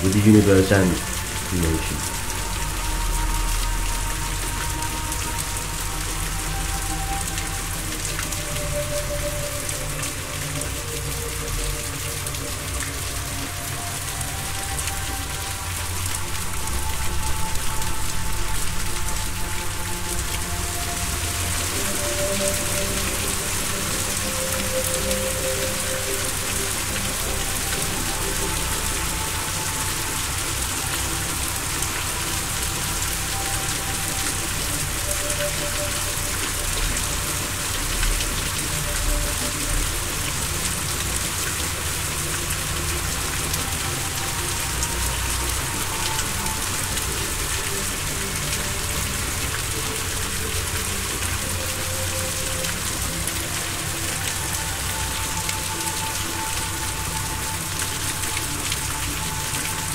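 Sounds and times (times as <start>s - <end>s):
ambient music held tones: 0.0s - 59.9s
rain-like hiss: 0.0s - 59.9s.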